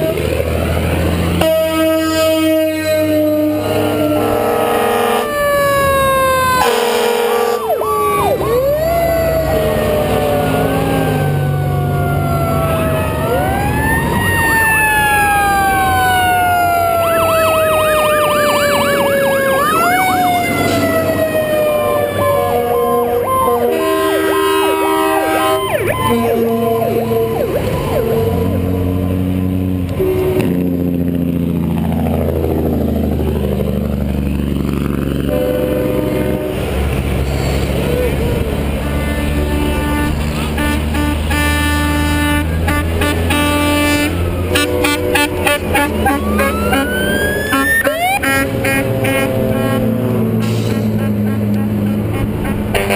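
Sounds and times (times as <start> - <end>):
air horns blasting: 0.0 - 0.7, 1.3 - 13.7, 15.2 - 28.8, 29.9 - 30.8, 35.3 - 52.9
fire truck sirens: 0.0 - 52.9
heavy truck engines rumbling: 0.0 - 52.9.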